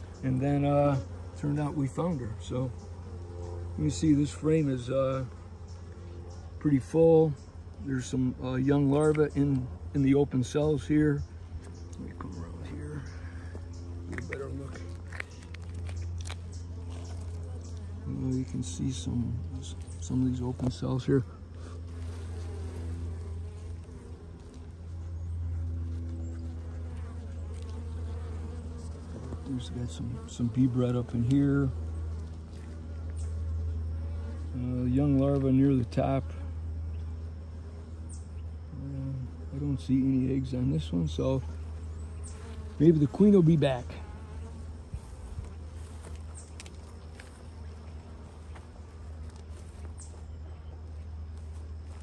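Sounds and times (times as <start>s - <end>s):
honeybees buzzing: 0.0s - 52.0s
steady low hum: 0.0s - 52.0s.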